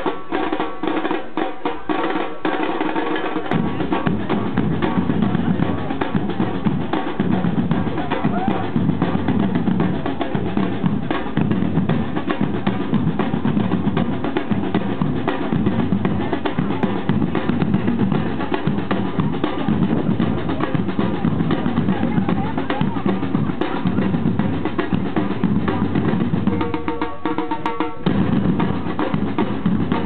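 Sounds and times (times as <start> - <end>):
samba drum band: 0.0 - 30.0
bass drums beating: 3.4 - 30.0.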